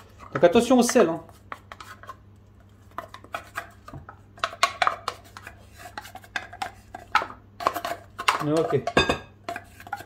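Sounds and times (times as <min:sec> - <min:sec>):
wooden spoon scraping tin can: 0:00.0 - 0:02.2, 0:02.8 - 0:10.0.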